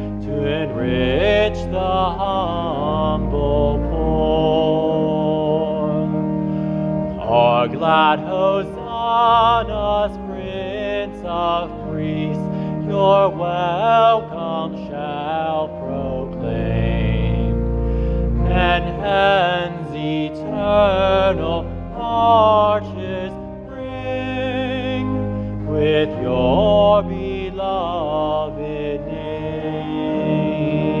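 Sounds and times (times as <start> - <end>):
organ chords: 0.0 - 31.0
person singing a hymn: 0.0 - 31.0.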